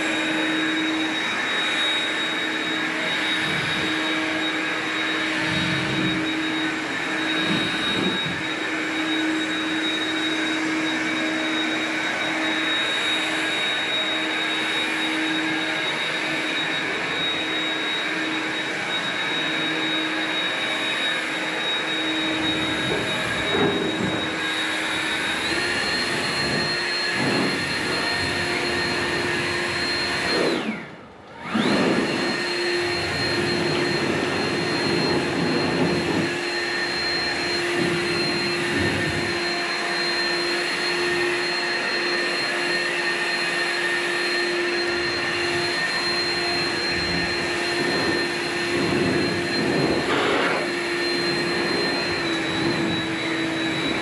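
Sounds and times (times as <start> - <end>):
blower running: 0.0 - 54.0.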